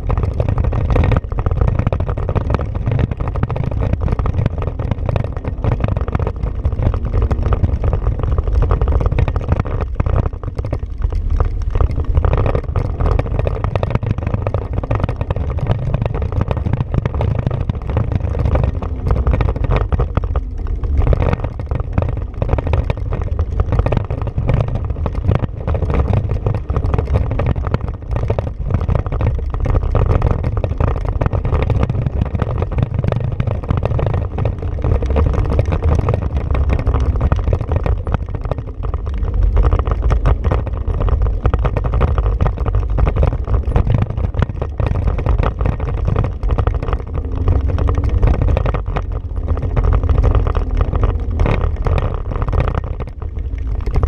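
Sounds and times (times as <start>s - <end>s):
engine running: 0.0s - 54.0s
tyres on dirt: 0.0s - 54.0s
wind on microphone: 0.0s - 54.0s.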